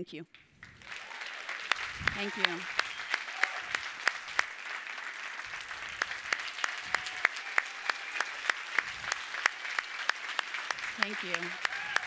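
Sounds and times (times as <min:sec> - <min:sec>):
hands clapping close by: 0:00.3 - 0:12.0
audience applauding: 0:00.5 - 0:12.0.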